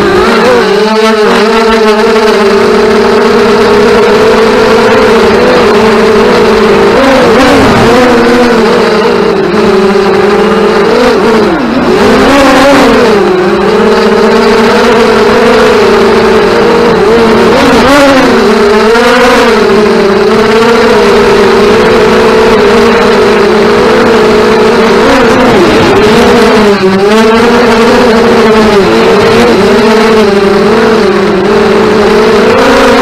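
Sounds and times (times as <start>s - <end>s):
racing drones buzzing: 0.0s - 33.0s.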